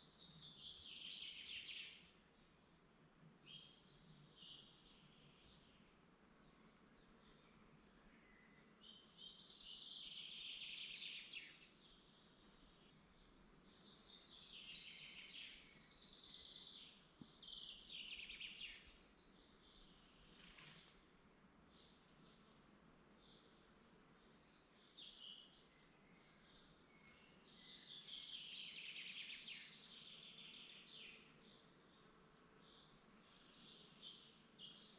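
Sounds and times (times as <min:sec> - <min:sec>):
soft steady hiss: 0:00.0 - 0:34.9
songbirds singing: 0:00.0 - 0:34.9.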